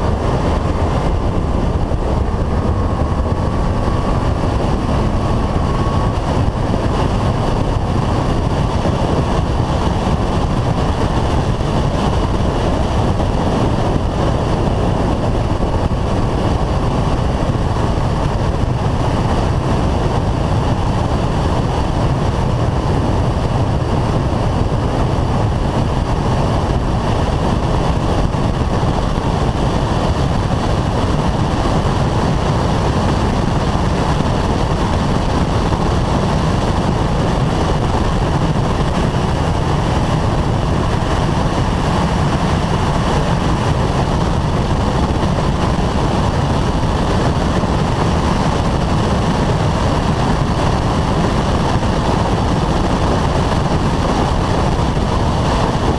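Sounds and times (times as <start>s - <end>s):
car engine: 0.0s - 54.9s
road noise: 0.0s - 55.9s
wind rushing over camera: 0.0s - 55.9s.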